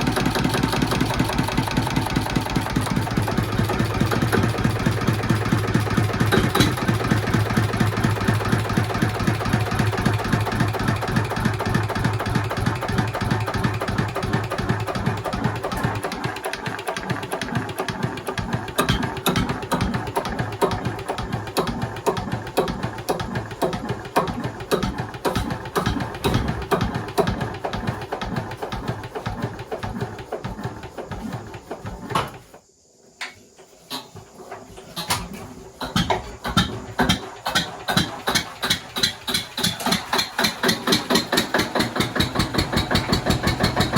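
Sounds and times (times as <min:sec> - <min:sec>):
stationary engine running: 0:00.0 - 0:32.1, 0:35.8 - 0:43.9.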